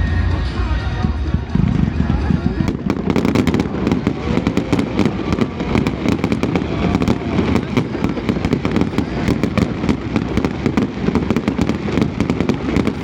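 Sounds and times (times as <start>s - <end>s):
fireworks cracking and crackling: 0.0s - 13.0s
low rumble of firework bursts: 0.0s - 13.0s.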